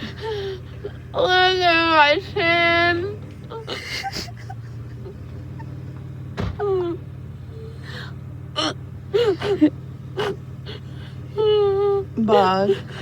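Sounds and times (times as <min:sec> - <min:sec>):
woman whimpering and sobbing: 0:00.0 - 0:05.8, 0:06.6 - 0:13.0.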